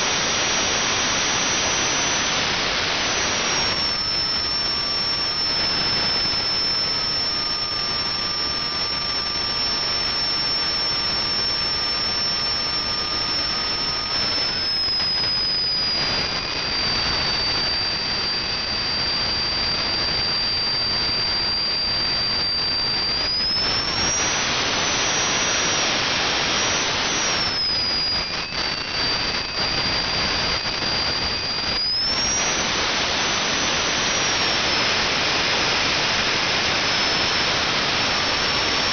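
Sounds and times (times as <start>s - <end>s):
high turbine whine: 0.0s - 38.9s
lower whine: 0.0s - 38.9s.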